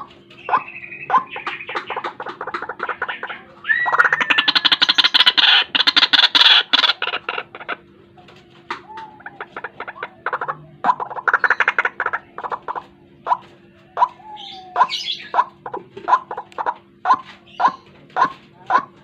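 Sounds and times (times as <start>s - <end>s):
waterhen calling harsh notes: 0.0s - 7.8s, 8.8s - 19.0s.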